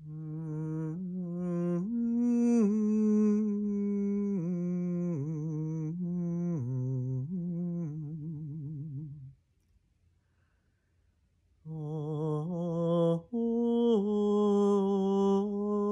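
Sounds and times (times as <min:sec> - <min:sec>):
woman humming melody: 0:00.0 - 0:09.4, 0:11.7 - 0:15.9.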